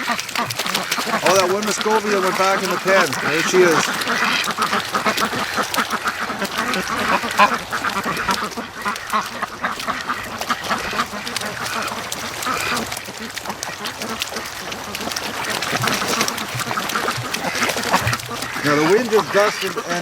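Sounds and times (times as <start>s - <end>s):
ducks quacking: 0.0s - 20.0s.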